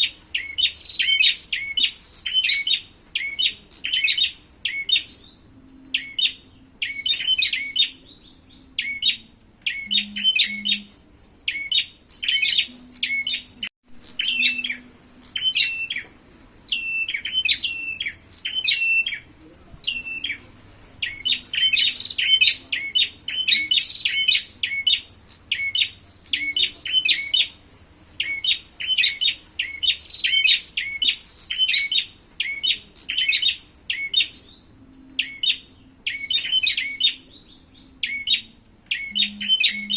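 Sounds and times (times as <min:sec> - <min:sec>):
birds chirping sharply: 0:00.0 - 0:39.9.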